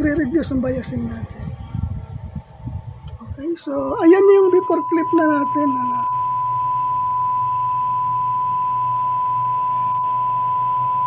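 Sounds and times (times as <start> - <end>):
faint low hum: 0.0 - 11.0
steady sine test tone: 0.0 - 11.0.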